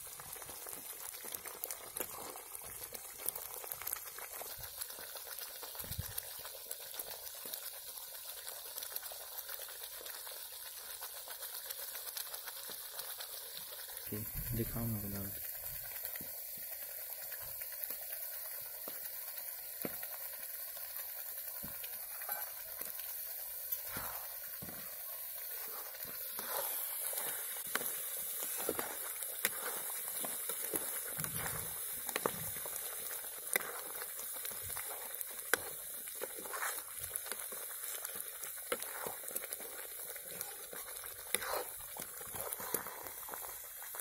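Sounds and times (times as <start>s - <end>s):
masala sizzling and bubbling: 0.0s - 44.0s.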